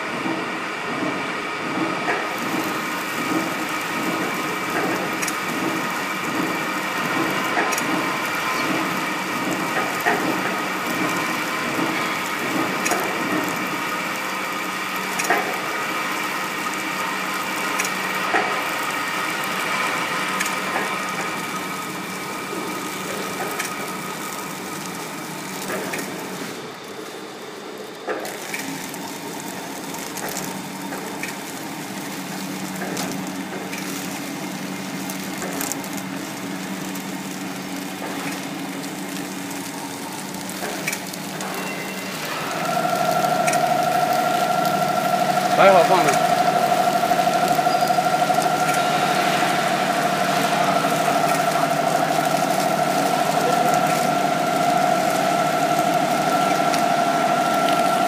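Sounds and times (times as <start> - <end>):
packing machine whine and hum: 0.0 - 58.0.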